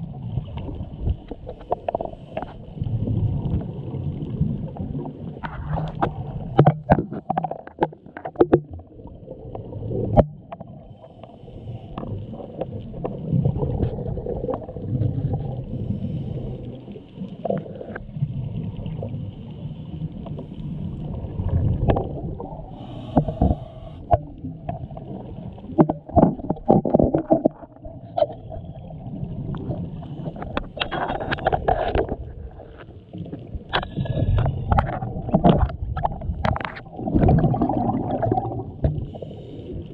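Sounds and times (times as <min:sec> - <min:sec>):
underwater rumbling and gurgling: 0:00.0 - 0:39.9.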